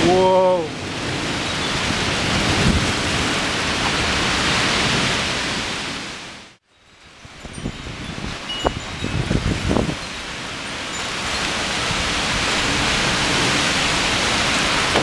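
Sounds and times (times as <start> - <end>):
storm wind gusting: 0.0 - 6.6, 7.2 - 15.0.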